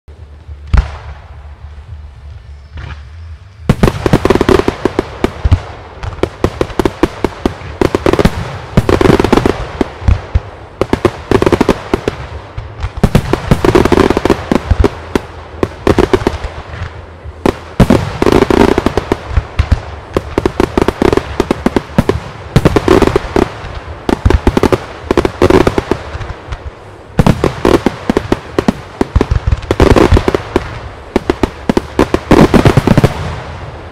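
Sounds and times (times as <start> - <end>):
fireworks bursts and crackle: 0.1 - 33.9.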